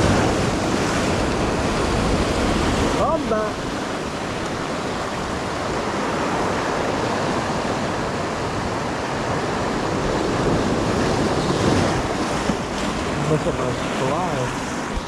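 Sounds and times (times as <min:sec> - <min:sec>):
ocean waves washing on shore: 0:00.0 - 0:15.0.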